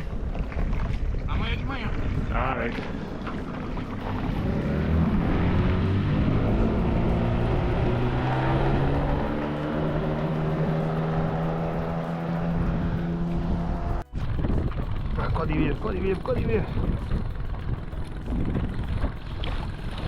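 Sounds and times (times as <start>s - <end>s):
boat outboard motor running: 0.0s - 20.0s.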